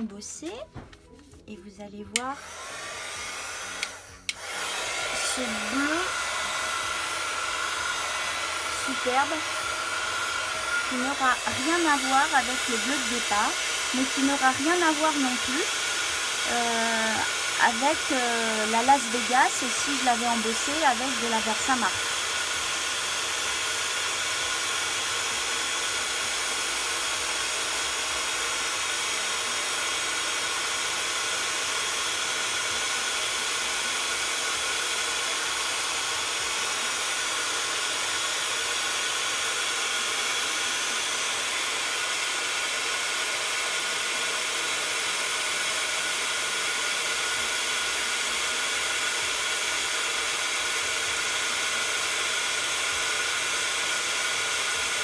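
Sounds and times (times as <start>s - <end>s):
heat gun blowing: 2.1s - 55.0s.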